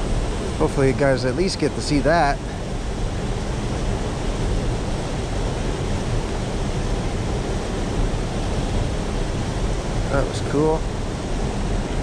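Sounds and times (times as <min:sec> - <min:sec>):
turbulent water rushing: 0:00.0 - 0:12.0.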